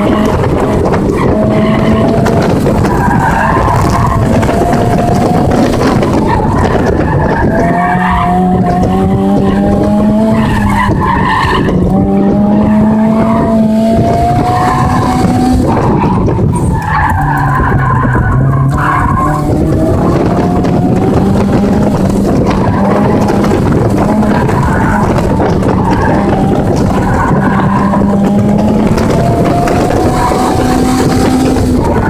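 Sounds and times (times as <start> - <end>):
car engine revving high: 0.0 - 32.0
tires squealing: 0.0 - 32.0
wind and road noise: 0.0 - 32.0.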